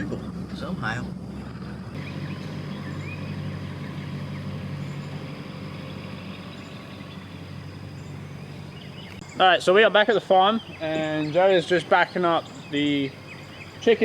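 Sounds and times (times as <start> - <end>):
vehicle engine running at low speed: 0.0 - 9.4, 10.1 - 14.0.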